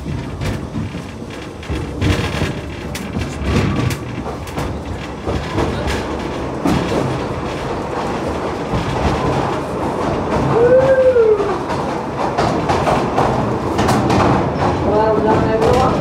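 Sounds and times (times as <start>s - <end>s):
sharp rail clacks: 0.0s - 16.0s
train wheels rumbling on track: 0.0s - 16.0s.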